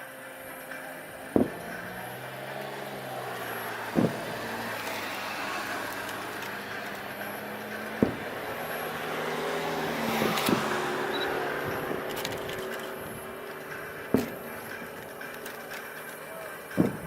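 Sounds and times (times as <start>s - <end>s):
steady background hum: 0.0s - 17.0s
fireworks bursting with booms: 1.1s - 17.0s.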